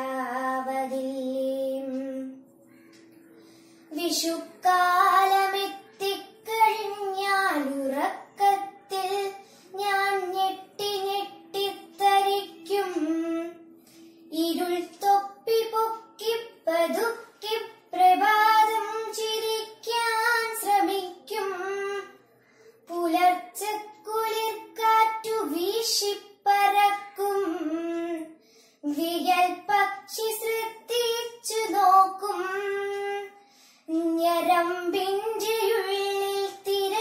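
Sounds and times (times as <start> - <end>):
girl singing poetry: 0.0 - 2.4, 3.9 - 22.2, 22.8 - 37.0.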